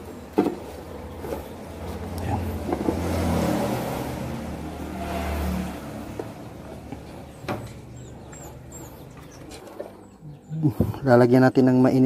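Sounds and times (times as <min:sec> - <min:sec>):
low engine rumble: 0:00.0 - 0:11.4.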